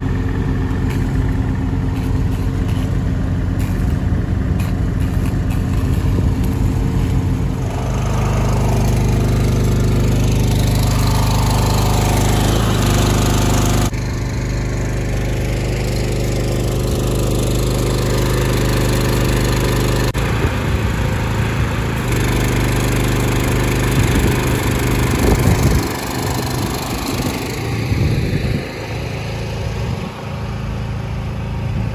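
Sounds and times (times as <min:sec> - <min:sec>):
engine knocks: 0:00.0 - 0:28.9
small engine running: 0:00.0 - 0:31.9.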